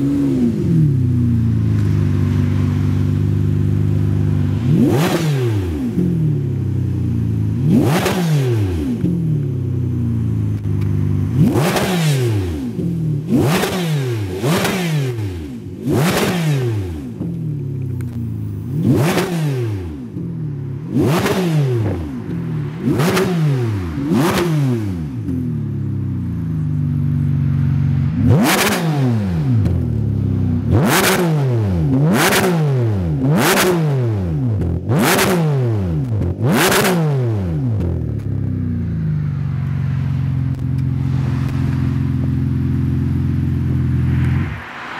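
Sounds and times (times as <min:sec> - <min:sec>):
car engine revving and idling: 0:00.0 - 0:44.9.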